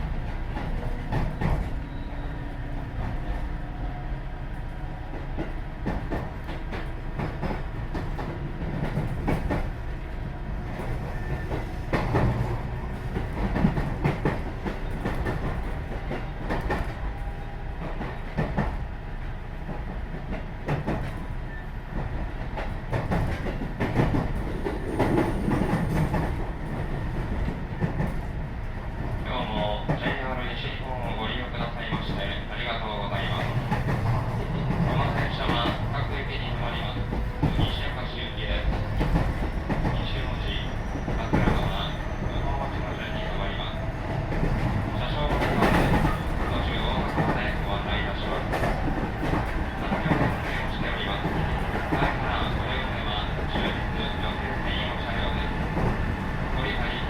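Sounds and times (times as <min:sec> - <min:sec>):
train interior rumble: 0:00.0 - 0:57.0.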